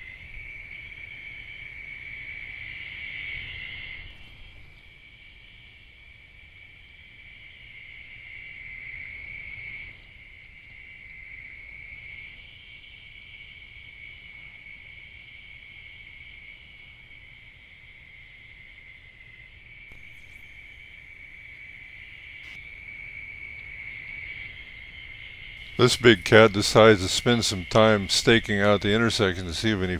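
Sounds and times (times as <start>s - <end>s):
insects buzzing at night: 0.0s - 29.9s
low background hiss: 0.0s - 29.9s.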